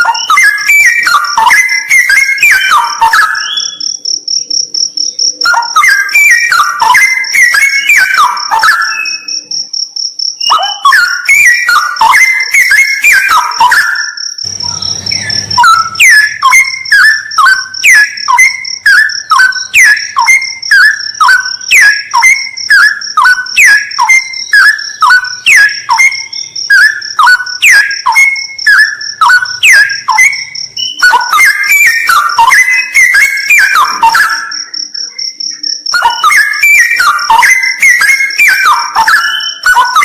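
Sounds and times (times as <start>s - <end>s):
bird singing whistled notes: 0.0s - 4.1s, 5.0s - 9.7s, 10.3s - 40.0s
high insect trill: 0.0s - 40.0s.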